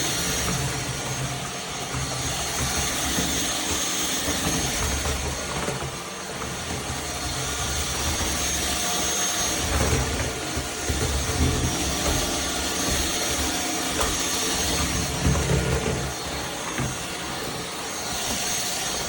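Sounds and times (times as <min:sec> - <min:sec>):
stick vacuum running: 0:00.0 - 0:19.0.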